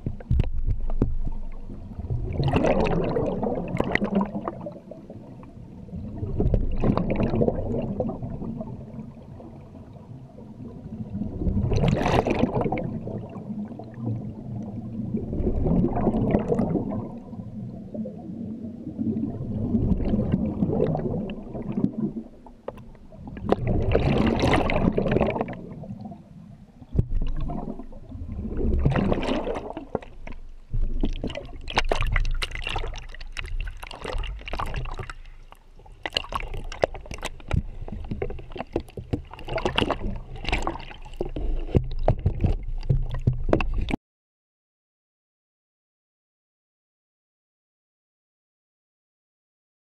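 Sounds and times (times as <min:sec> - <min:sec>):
low underwater rumble: 0:00.0 - 0:44.0.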